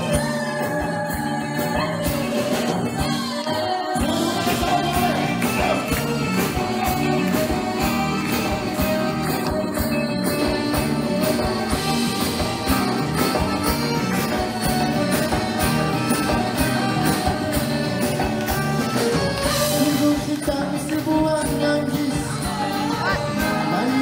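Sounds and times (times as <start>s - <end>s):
person singing into a microphone: 0.0s - 9.8s, 13.1s - 24.0s
live band playing pop song: 0.0s - 24.0s.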